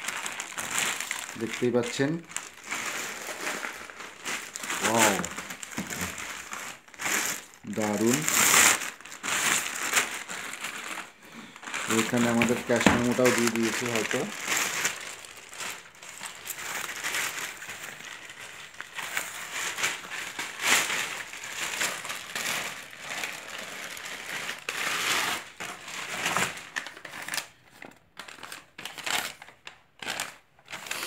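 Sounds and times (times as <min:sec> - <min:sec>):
packing wrap crinkling: 0:00.0 - 0:31.0.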